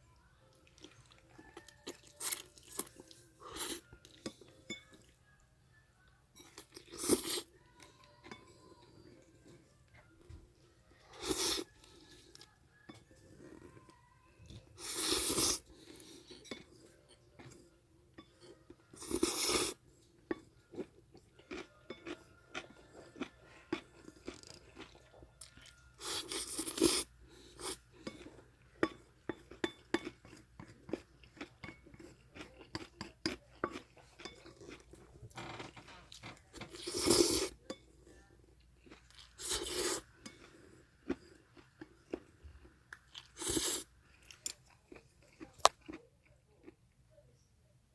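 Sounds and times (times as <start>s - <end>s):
person chewing noodles: 0.6s - 5.1s, 6.4s - 7.5s, 11.0s - 12.5s, 14.5s - 46.1s.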